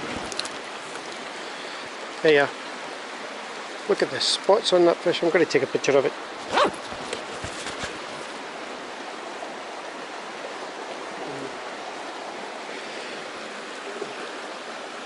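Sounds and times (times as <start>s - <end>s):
stream rushing over stones: 0.0s - 15.0s.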